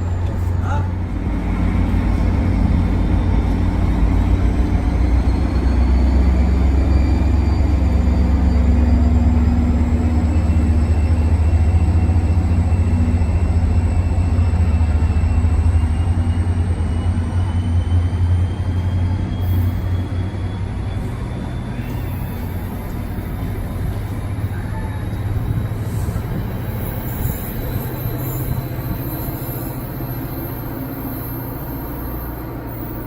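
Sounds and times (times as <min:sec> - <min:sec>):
diesel train engine rumbling: 0:00.0 - 0:33.0.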